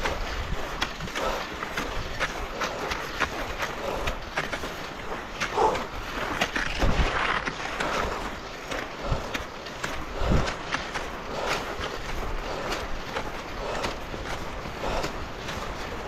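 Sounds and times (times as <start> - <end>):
skis scraping over snow: 0.0 - 16.0.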